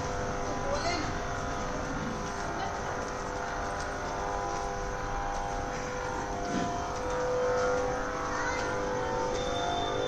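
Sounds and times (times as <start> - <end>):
railway machinery drone: 0.0 - 10.0.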